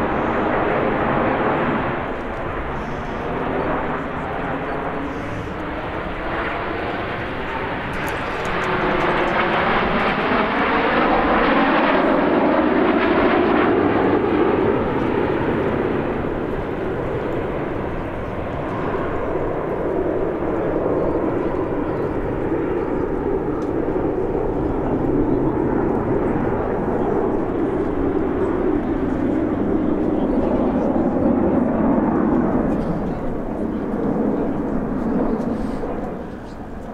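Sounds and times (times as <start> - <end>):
jets passing overhead whining: 0.0 - 36.9.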